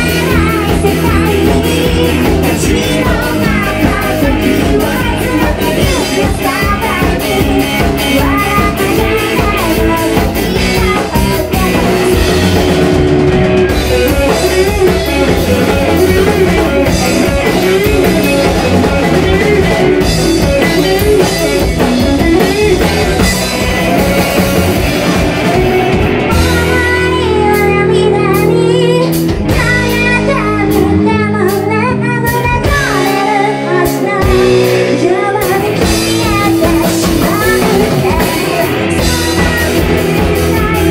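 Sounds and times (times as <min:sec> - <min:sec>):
bass guitar: 0:00.0 - 0:40.9
drum kit: 0:00.0 - 0:40.9
electric guitars: 0:00.0 - 0:40.9
woman singing lead: 0:00.0 - 0:40.9.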